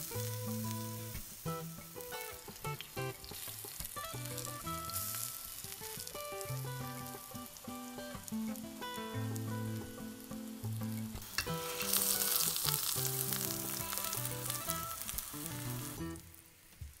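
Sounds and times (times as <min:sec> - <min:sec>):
soft background music: 0:00.0 - 0:16.4
eggplant sizzling in oil: 0:00.0 - 0:17.0.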